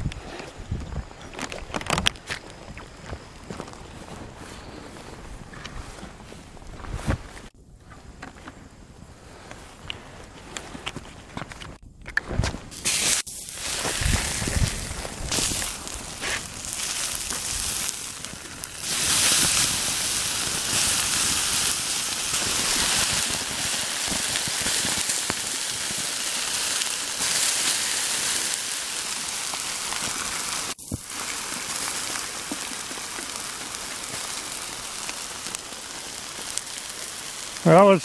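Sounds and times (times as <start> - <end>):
smouldering plastic crackling: 0.2 - 4.5, 9.3 - 38.0.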